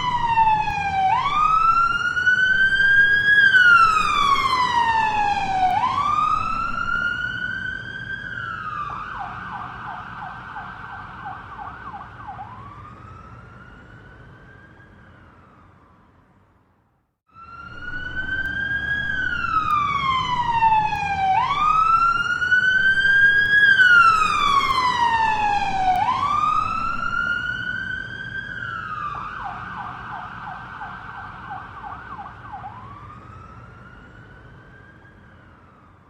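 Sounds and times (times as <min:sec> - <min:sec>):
low vehicle rumble: 0:00.0 - 0:15.9, 0:17.4 - 0:35.9
ambulance siren wailing: 0:00.0 - 0:16.4, 0:17.3 - 0:36.0.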